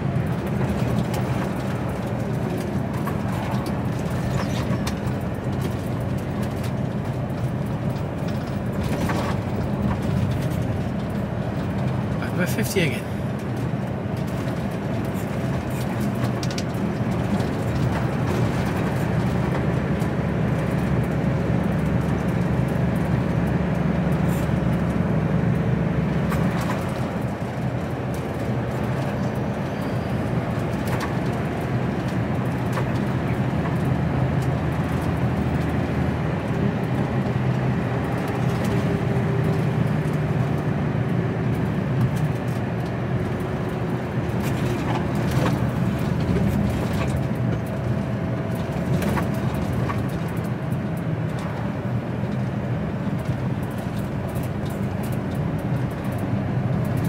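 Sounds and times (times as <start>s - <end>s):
lorry engine and tyres droning: 0.0s - 57.0s.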